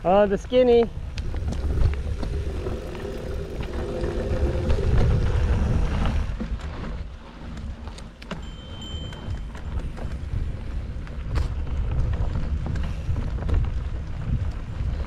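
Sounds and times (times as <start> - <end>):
bike tyres rolling on dirt: 0.0 - 15.0
wind buffeting microphone: 0.0 - 15.0
bike rattling over bumps: 0.7 - 15.0.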